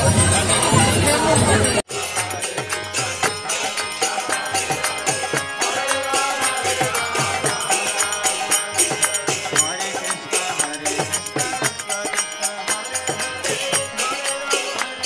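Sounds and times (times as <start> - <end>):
harmonium chords: 0.0 - 15.0
voices chanting: 0.0 - 15.0
hand cymbals beat: 1.9 - 15.0.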